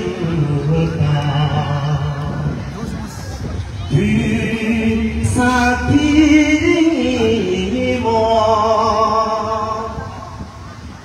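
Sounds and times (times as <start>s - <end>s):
voices singing slow song: 0.0s - 2.6s, 3.8s - 10.6s.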